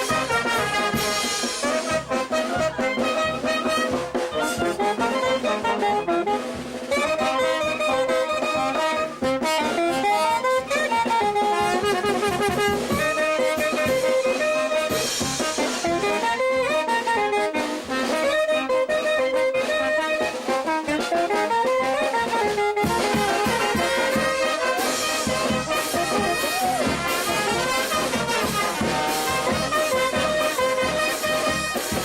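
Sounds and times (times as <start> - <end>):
brass band playing: 0.0 - 32.0.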